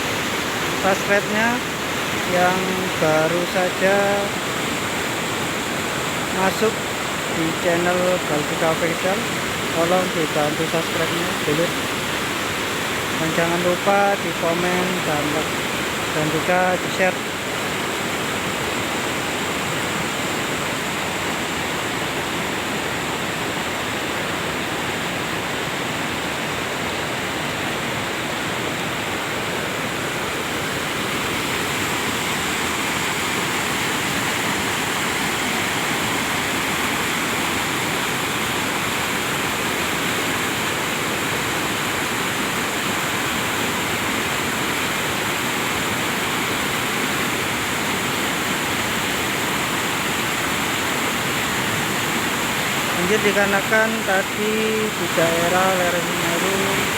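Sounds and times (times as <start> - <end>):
muddy flood torrent rushing: 0.0 - 56.9.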